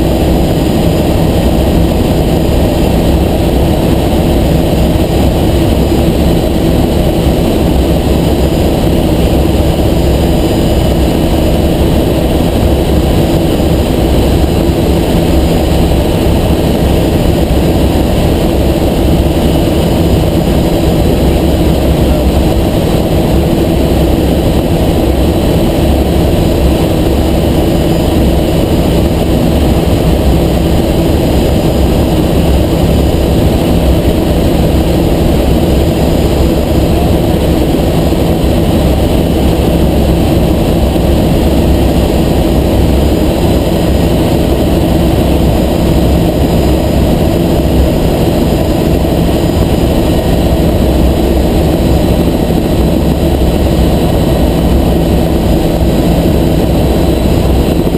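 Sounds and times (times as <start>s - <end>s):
helicopter rotor and engine drone: 0.0s - 57.9s.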